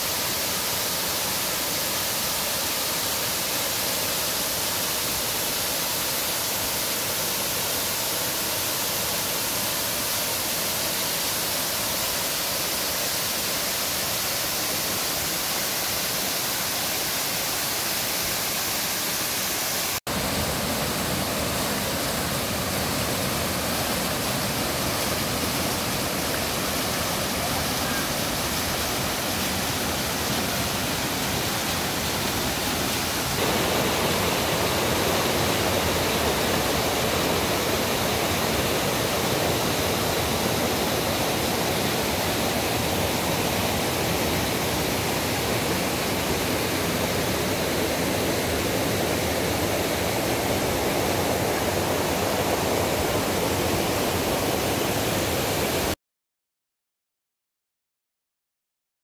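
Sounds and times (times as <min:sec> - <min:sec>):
stream rushing over boulders: 0:00.0 - 0:56.0.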